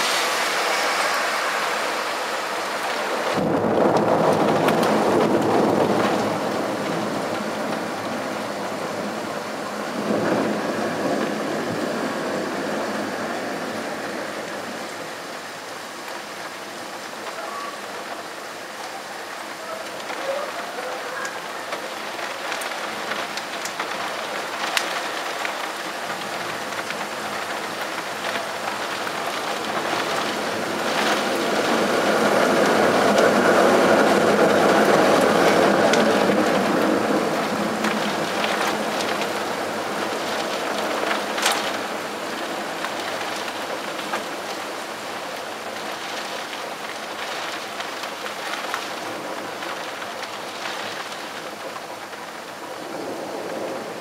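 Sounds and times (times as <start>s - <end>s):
thunder rumble: 0.0s - 18.2s, 19.2s - 54.0s
rain drops tapping: 0.0s - 54.0s.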